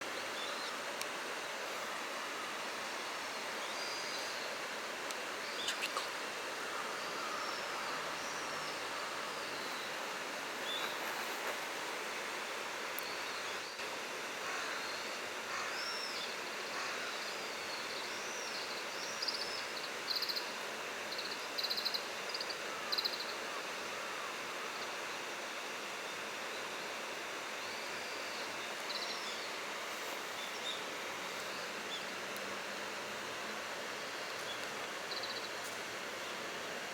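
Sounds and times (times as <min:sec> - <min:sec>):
steady outdoor hiss: 0:00.0 - 0:36.9.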